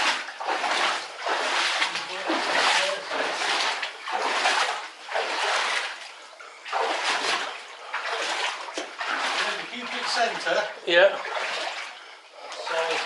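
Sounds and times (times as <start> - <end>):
wading through water: 0.0 - 13.0.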